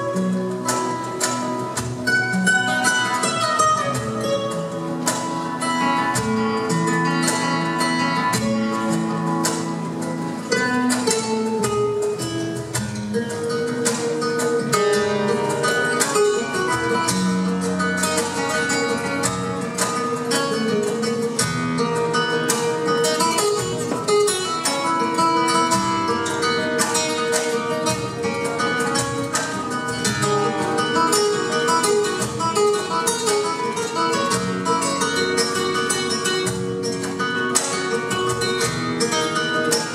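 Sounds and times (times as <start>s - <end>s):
flamenco guitars playing: 0.0s - 39.9s.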